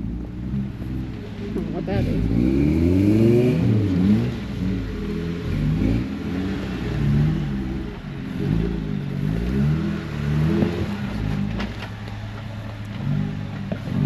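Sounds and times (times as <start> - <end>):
off-road engine revving: 0.0 - 14.0.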